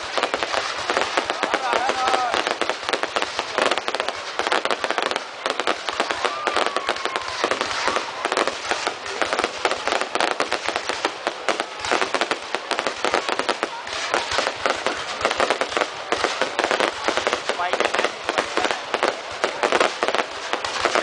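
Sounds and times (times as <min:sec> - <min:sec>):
fireworks crackling bangs: 0:00.0 - 0:21.0.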